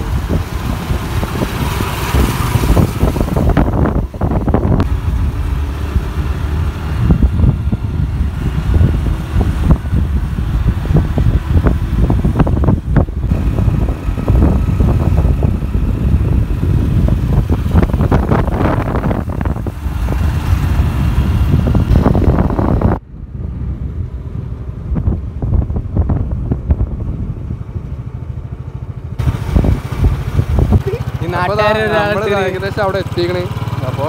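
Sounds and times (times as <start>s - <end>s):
vehicle engine running: 0.0s - 34.0s
wind buffeting microphone: 0.0s - 34.0s.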